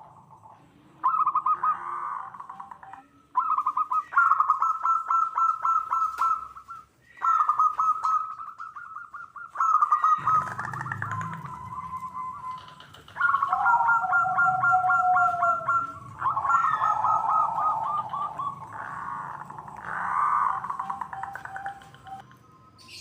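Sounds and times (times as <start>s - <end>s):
doves cooing rapidly: 0.0s - 23.0s.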